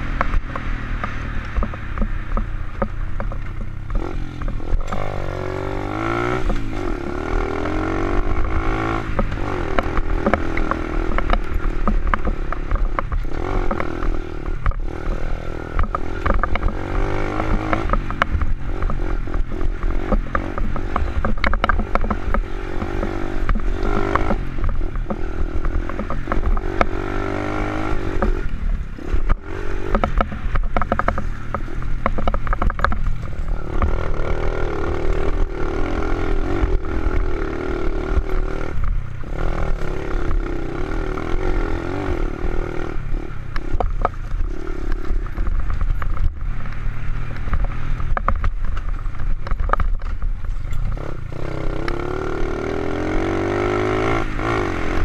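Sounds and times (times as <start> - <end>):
bike rattling over bumps: 0.0 - 55.0
motorcycle engine revving: 0.0 - 55.0.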